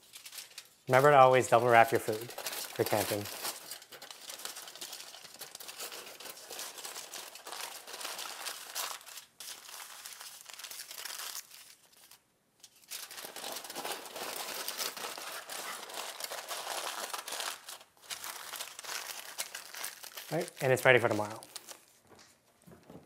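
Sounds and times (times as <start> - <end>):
aluminum foil crinkling: 0.0 - 22.9.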